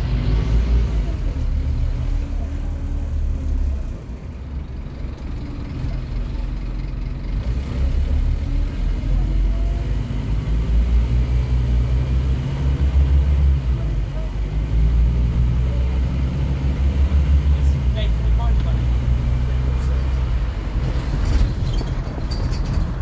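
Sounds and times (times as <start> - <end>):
bus diesel engine accelerating: 0.0 - 23.0.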